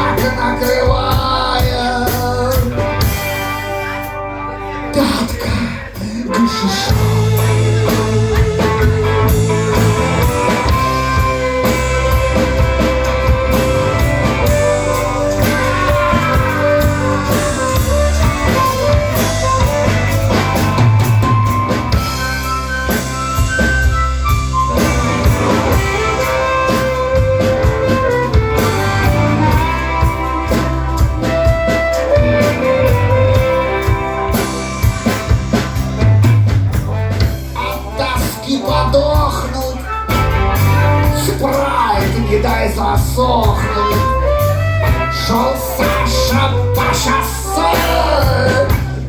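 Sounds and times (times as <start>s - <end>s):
rock band playing: 0.0s - 49.0s
wavering guitar lead: 0.0s - 49.0s.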